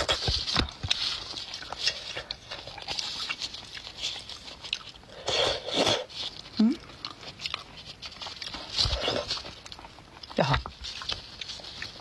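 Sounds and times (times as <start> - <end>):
wet chewing and mouth sounds: 0.0 - 12.0.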